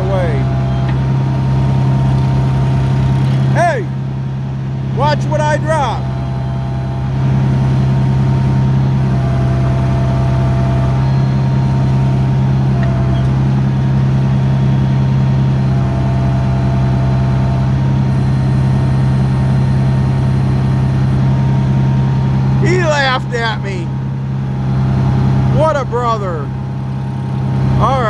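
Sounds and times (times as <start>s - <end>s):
high hydraulic whine: 0.0s - 4.0s, 4.9s - 28.0s
backhoe engine droning: 0.0s - 28.0s.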